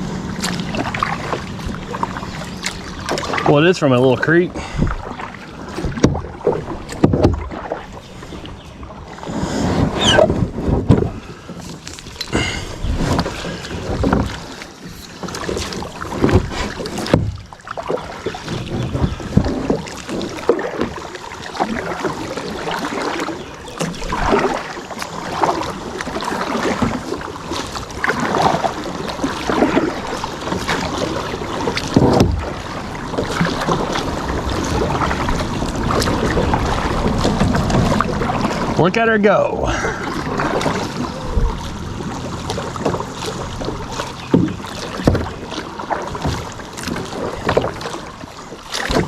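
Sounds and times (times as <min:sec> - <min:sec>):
kayak paddle splashing in water: 0:00.0 - 0:49.0
water dripping from paddle: 0:00.3 - 0:08.6, 0:11.4 - 0:49.0.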